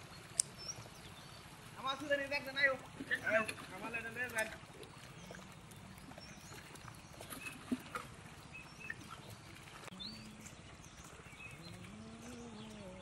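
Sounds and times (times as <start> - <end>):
splashing in shallow water: 0.0 - 13.0.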